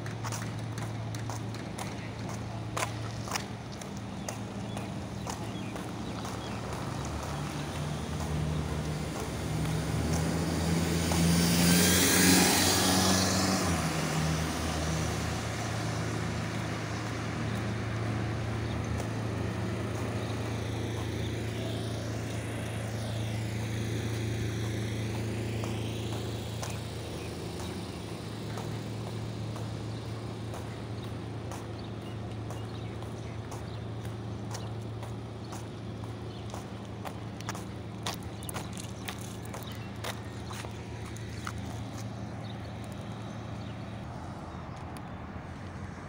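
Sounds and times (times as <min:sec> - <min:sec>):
low engine hum: 0:00.0 - 0:46.0
vehicle passing: 0:00.0 - 0:46.0.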